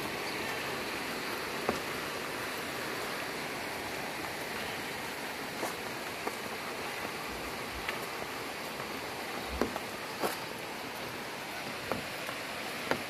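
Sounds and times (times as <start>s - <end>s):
rain and running water hiss: 0.0s - 13.0s.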